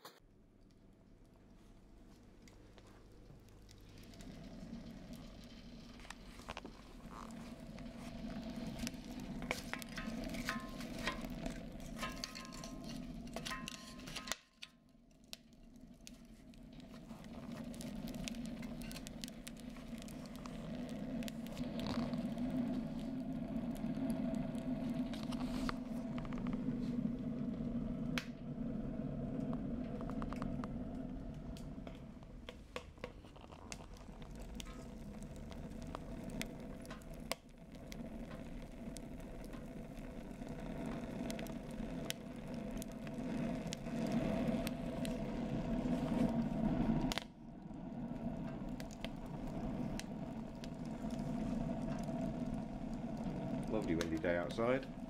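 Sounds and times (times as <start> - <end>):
stove low hum: 0.0 - 55.0
fire crackles and clicks: 0.6 - 55.0.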